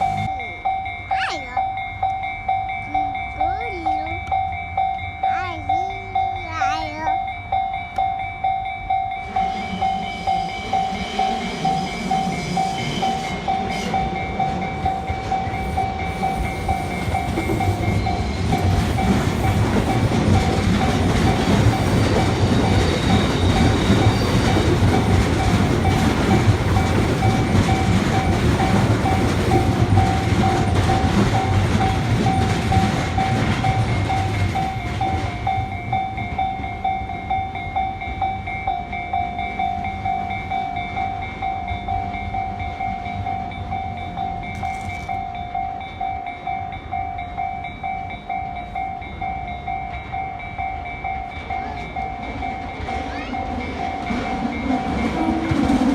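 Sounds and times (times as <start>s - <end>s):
railroad crossing bell ringing: 0.0s - 55.9s
train wheels clattering over rails: 9.2s - 46.5s, 47.2s - 55.9s.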